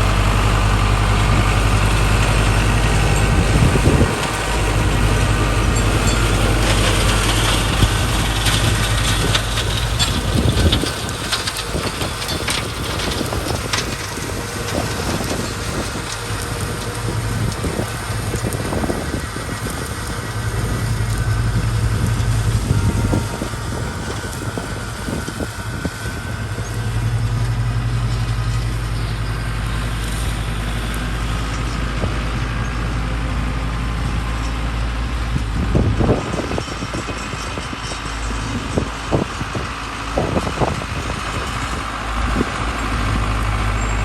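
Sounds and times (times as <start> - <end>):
flail mower chattering: 0.0 - 33.1, 36.2 - 44.0
tractor engine drone: 0.0 - 44.0.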